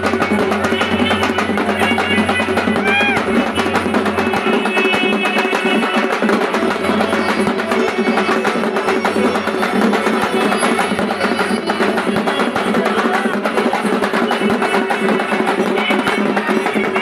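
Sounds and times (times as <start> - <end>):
street band drums playing: 0.0 - 17.0.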